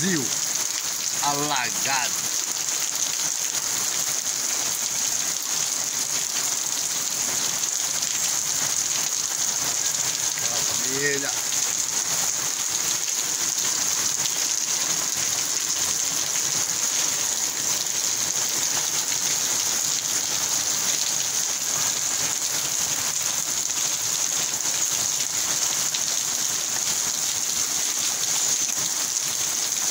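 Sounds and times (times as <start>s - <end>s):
heavy rain on wet street: 0.0s - 29.9s.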